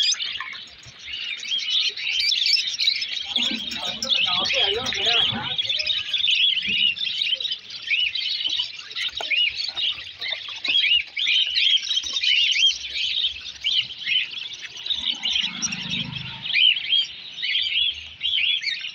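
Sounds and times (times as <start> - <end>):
budgerigars chattering: 0.0 - 18.9.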